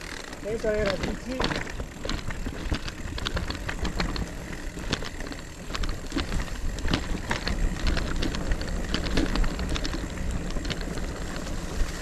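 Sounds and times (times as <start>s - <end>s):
bike rattling clicks and knocks: 0.0s - 12.0s
mountain bike on rough trail: 0.0s - 12.0s.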